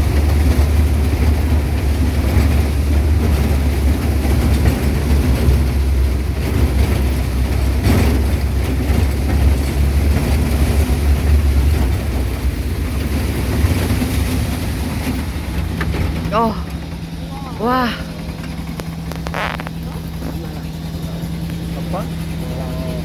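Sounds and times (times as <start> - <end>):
car engine rumble: 0.0 - 23.0
road rumble: 0.0 - 23.0.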